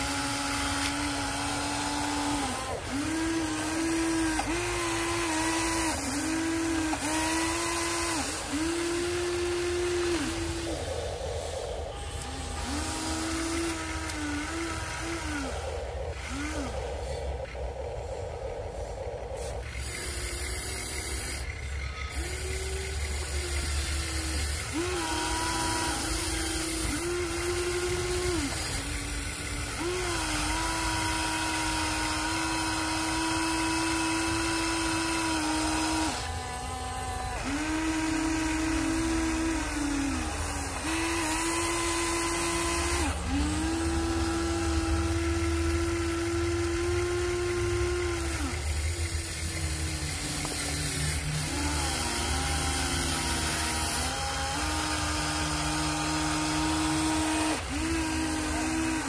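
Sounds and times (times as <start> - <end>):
electric motors whining: 0.0 - 59.0.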